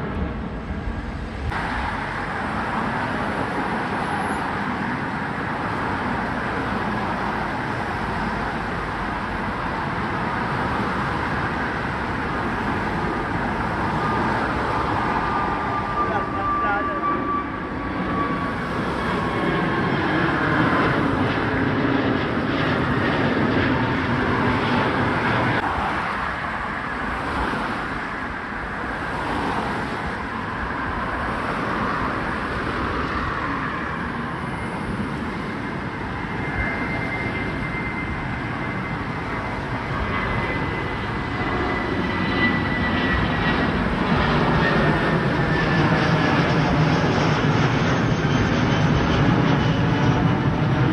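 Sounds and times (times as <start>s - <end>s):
high engine whine: 0.0s - 50.9s
jet engines roaring: 0.0s - 50.9s.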